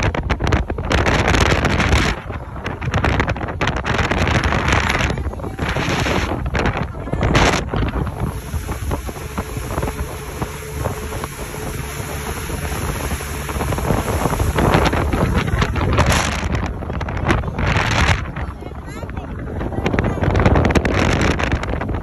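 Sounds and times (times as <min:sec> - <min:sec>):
boat engine rumbling: 0:00.0 - 0:22.0
water rushing: 0:00.0 - 0:22.0
wind buffeting microphone: 0:00.0 - 0:22.0.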